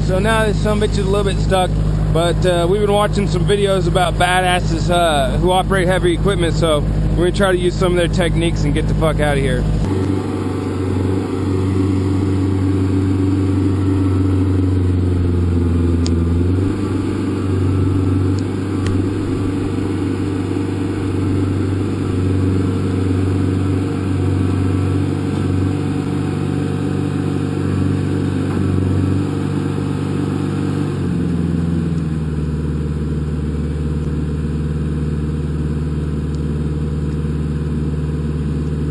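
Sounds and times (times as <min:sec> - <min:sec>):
diesel engine running hard: 0:00.0 - 0:38.9.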